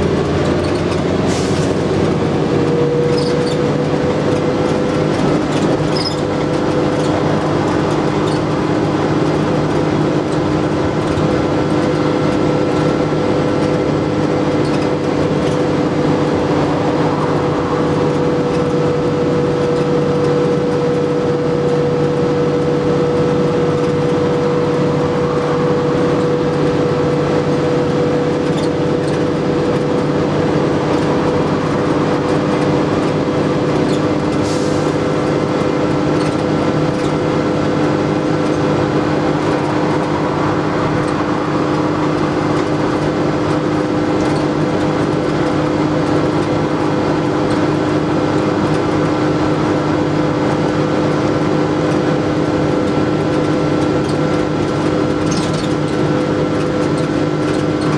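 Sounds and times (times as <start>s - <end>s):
bus body rattle: 0.0s - 57.9s
bus engine and drivetrain whine: 0.0s - 57.9s
road noise: 0.0s - 57.9s.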